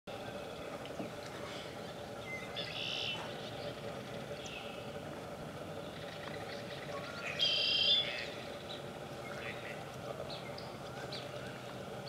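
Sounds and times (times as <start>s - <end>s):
low background noise: 0.1s - 12.0s
birds singing buzzy song: 0.2s - 12.0s.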